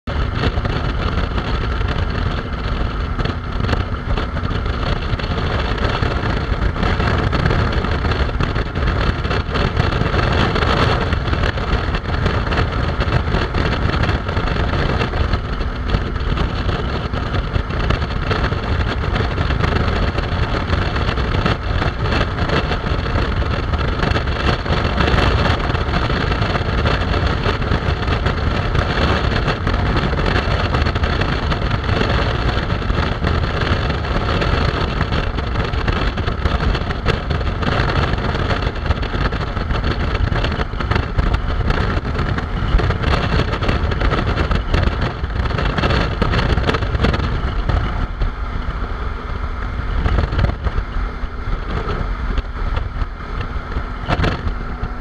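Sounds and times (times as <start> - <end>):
motorcycle engine drone: 0.0 - 55.0
wind rush over microphone: 0.0 - 55.0.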